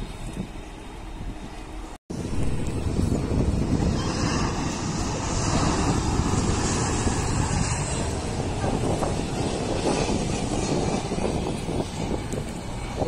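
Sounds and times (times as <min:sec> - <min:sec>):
jet engine rumble overhead: 0:00.0 - 0:13.0.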